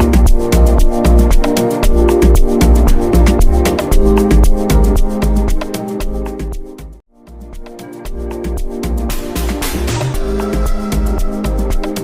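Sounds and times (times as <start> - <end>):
electronic music with pulsing bass: 0.0 - 12.0.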